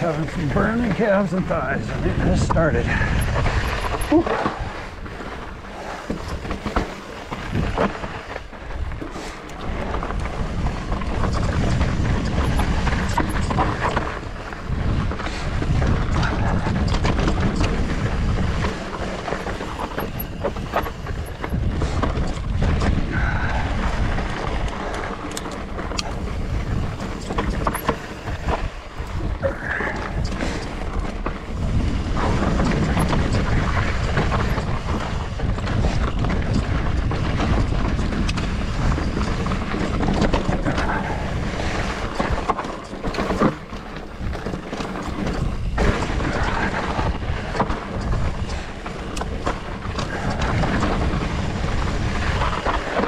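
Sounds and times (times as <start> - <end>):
bike clicks and knocks: 0.0 - 53.0
tyres on dirt trail: 0.0 - 53.0
wind buffeting microphone: 0.0 - 53.0.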